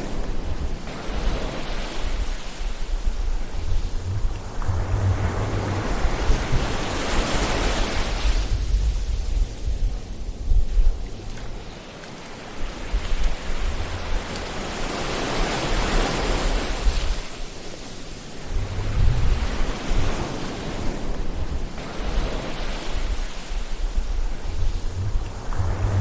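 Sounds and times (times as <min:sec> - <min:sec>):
waves breaking: 0:00.0 - 0:26.0.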